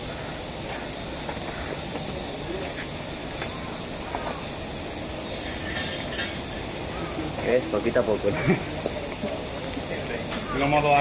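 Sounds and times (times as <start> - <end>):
cicada chorus: 0.0 - 11.0.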